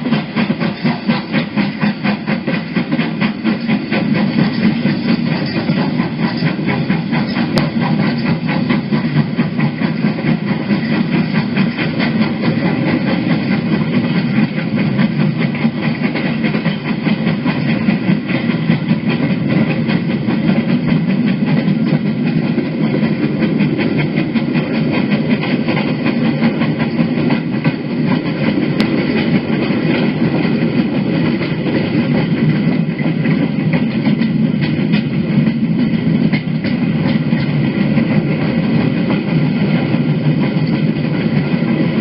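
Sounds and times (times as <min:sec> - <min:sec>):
steam locomotive running: 0:00.0 - 0:42.0.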